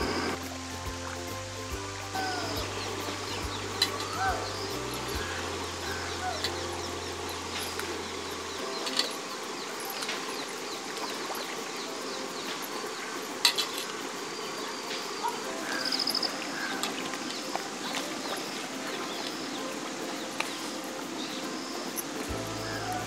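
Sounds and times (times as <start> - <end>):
outdoor ambience: 0.0 - 23.0
small birds chirping: 1.6 - 23.0.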